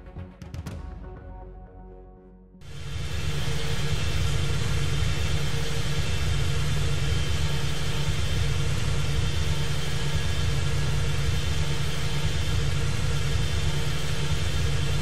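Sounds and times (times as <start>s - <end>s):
faint steady hum: 2.6s - 15.0s
airflow hiss: 2.7s - 15.0s.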